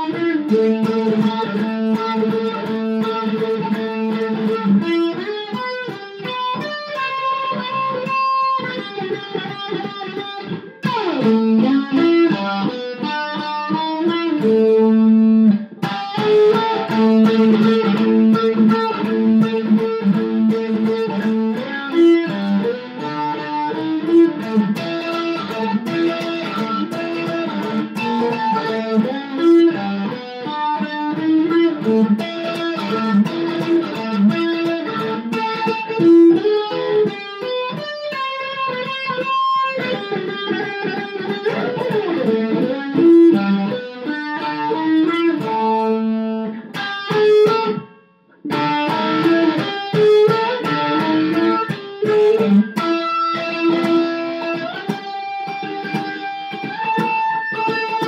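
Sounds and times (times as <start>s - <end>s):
electric mandolin blues-rock riffs: 0.0s - 58.0s.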